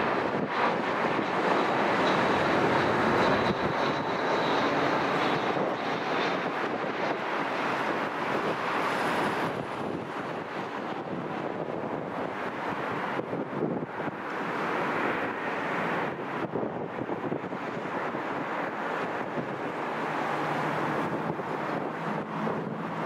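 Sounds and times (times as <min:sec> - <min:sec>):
faint high jet whine: 0:00.0 - 0:23.0
jet engine roar: 0:00.0 - 0:23.0.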